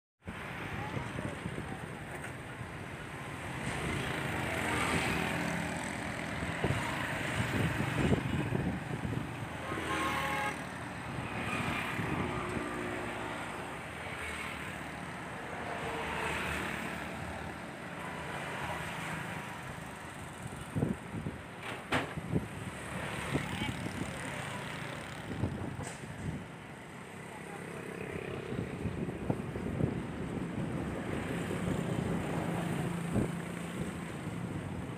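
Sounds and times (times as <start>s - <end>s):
motorcycles and cars passing: 0.3s - 21.6s, 22.2s - 34.9s.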